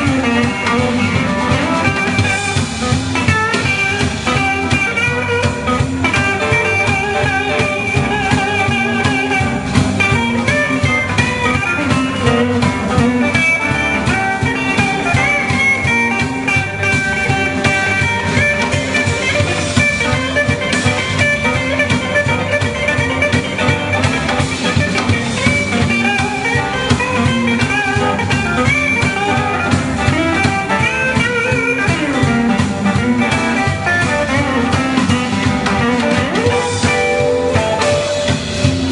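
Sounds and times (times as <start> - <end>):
electric guitar bending notes: 0.0 - 38.9
live blues band playing: 0.0 - 38.9.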